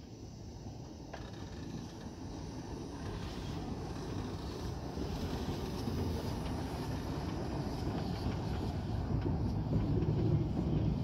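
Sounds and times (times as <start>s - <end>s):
steam locomotive rumbling: 0.0s - 11.0s.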